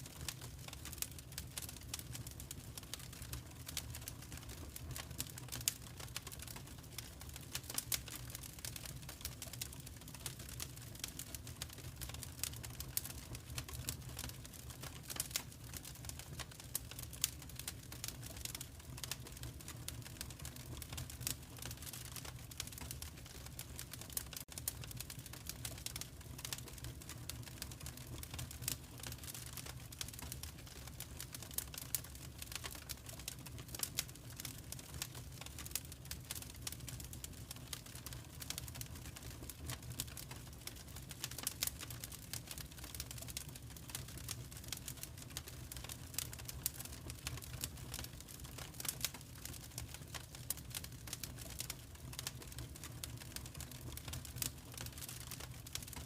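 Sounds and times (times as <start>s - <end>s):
fire crackling and popping: 0.0s - 56.0s
low rumble of flames: 0.1s - 56.0s.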